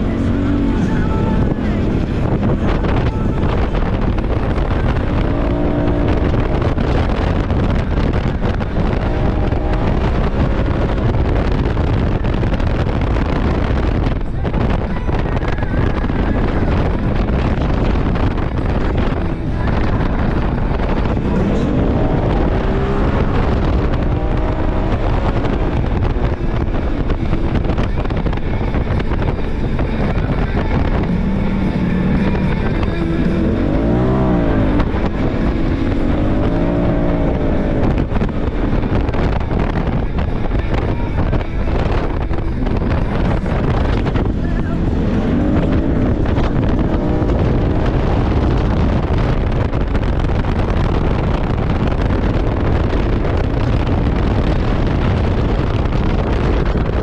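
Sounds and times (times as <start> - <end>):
utility vehicle engine revving: 0.0 - 57.0
wind rushing: 0.0 - 57.0.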